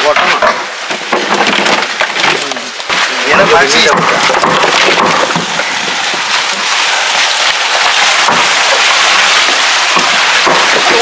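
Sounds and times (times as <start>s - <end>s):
wet fish clattering in crates: 0.0s - 11.0s.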